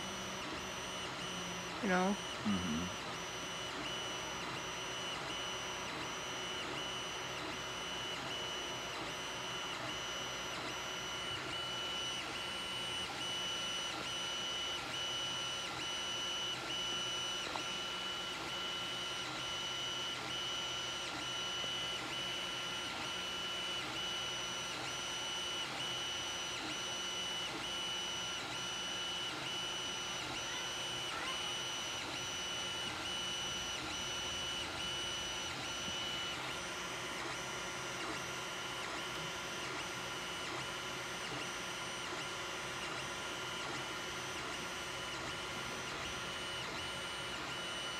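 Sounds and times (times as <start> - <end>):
printer fans and motors whirring: 0.0 - 47.9.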